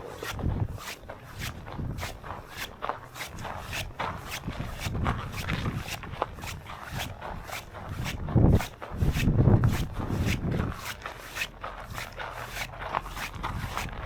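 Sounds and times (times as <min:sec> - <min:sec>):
wind buffeting microphone: 0:00.0 - 0:12.0, 0:12.7 - 0:14.0
footsteps crunching through snow: 0:00.0 - 0:14.0.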